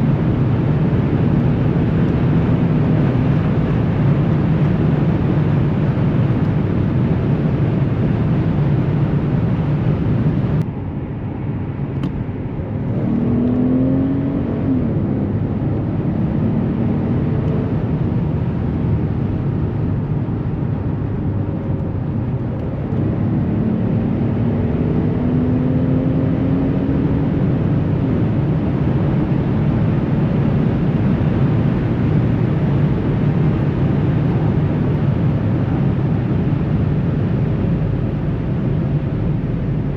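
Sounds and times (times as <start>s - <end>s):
car engine at speed: 0.0s - 39.9s.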